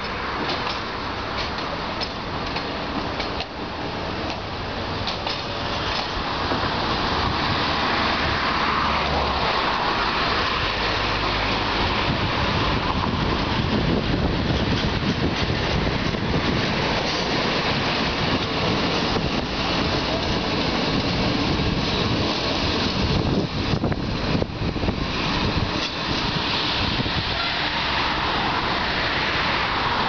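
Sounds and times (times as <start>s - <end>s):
locomotive engine drone: 0.0s - 30.0s
train wheels rumbling on rails: 0.0s - 30.0s.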